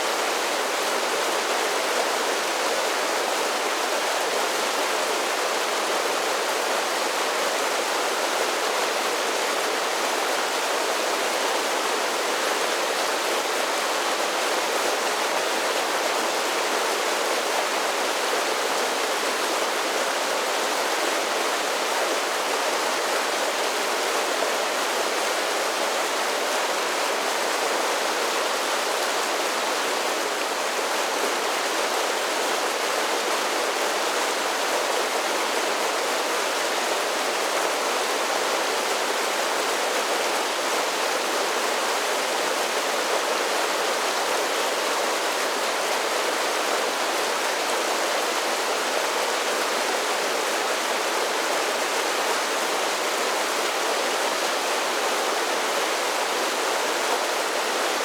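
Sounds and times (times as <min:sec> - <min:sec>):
creek splashing over falls: 0:00.0 - 0:58.0.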